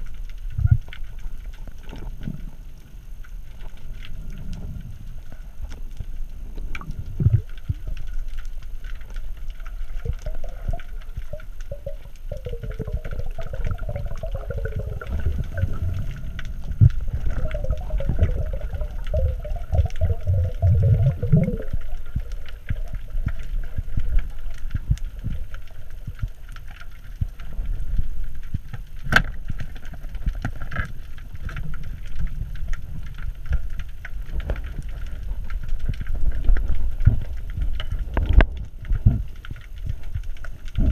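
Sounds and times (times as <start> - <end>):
underwater rumble with gurgling: 0.0 - 40.9.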